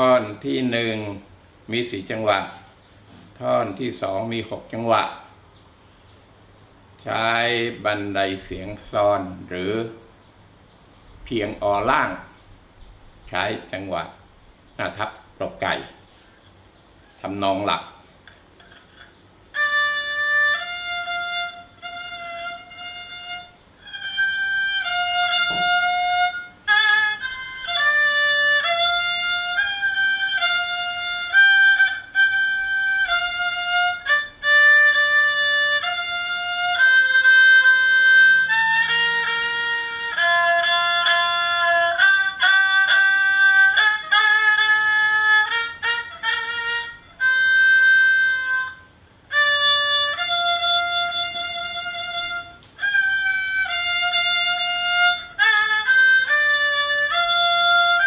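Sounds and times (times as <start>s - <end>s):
bowed fiddle melody: 0.0s - 6.2s, 7.0s - 58.0s.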